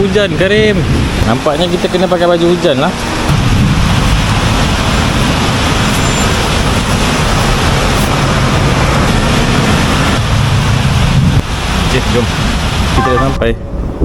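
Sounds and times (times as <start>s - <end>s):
motorcycle road and engine rumble: 0.0s - 14.0s
wind and rain on microphone: 0.0s - 14.0s.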